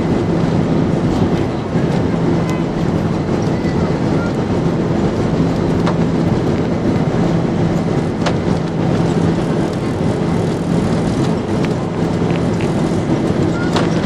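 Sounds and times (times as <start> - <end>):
airliner drone at takeoff: 0.0 - 14.0.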